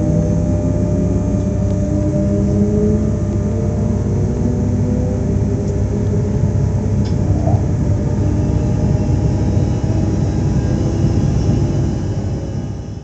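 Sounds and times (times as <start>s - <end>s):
electric train rumbling: 0.0s - 13.0s
faint humming tones: 0.0s - 13.0s.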